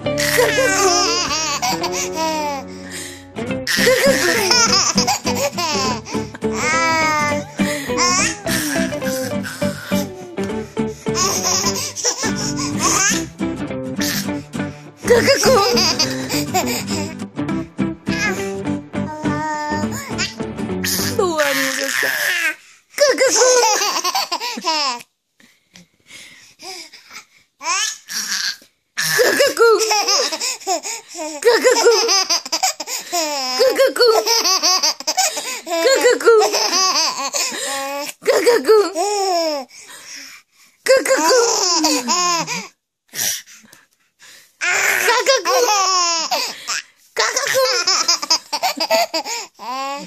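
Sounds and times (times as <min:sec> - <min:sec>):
baby laughing: 0:00.1 - 0:02.7, 0:03.6 - 0:10.6, 0:11.2 - 0:13.3, 0:14.0 - 0:14.4, 0:15.0 - 0:17.2, 0:18.1 - 0:25.0, 0:27.6 - 0:39.6, 0:41.0 - 0:42.7, 0:44.6 - 0:50.0.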